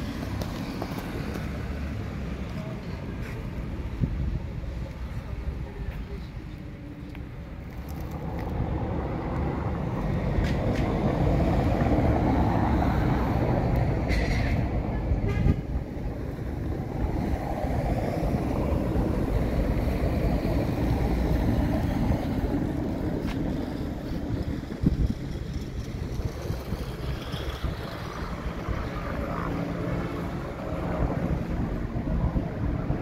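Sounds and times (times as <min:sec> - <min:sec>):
vehicle rumbling: 0:00.0 - 0:33.0.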